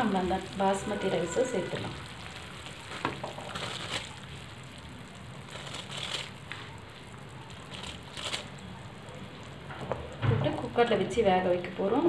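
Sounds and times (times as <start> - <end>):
rice stirred into boiling pot: 0.0 - 10.9
liquid boiling in a pot: 0.0 - 12.0.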